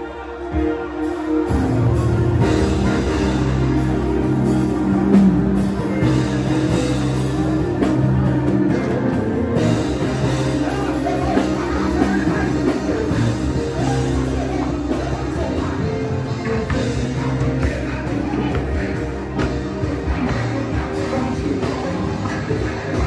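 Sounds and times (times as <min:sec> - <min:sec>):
worship band music: 0:00.0 - 0:23.0.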